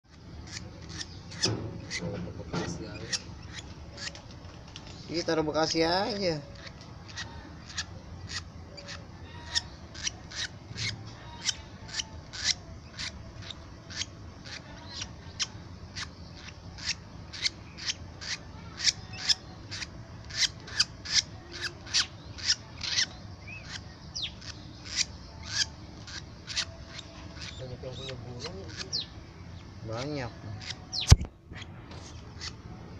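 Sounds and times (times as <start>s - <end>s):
baby bird raspy begging chirps: 0.4s - 2.1s, 2.9s - 4.2s, 5.6s - 29.2s, 29.8s - 31.2s, 32.3s - 32.6s.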